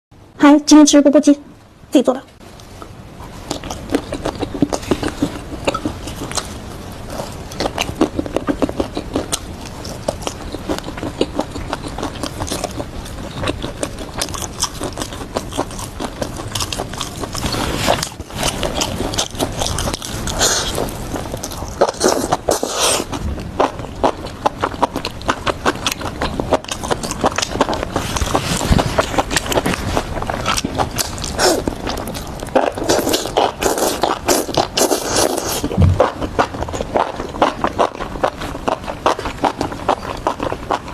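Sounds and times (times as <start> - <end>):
person chewing crunchy food: 2.6 - 40.9.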